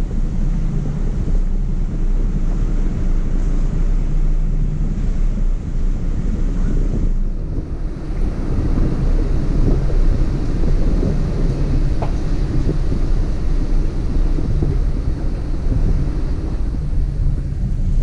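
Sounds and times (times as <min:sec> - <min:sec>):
engine and tyres rumbling: 0:00.0 - 0:18.0
wind buffeting microphone: 0:00.0 - 0:18.0.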